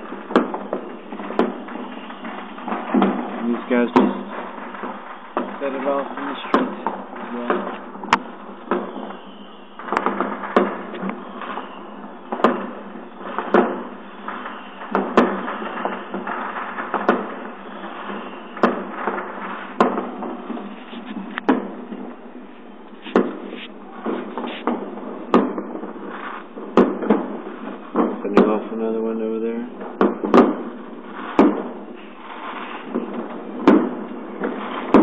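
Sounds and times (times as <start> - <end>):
continuous fireworks crackle: 0.0 - 35.0
firework bangs: 0.0 - 35.0.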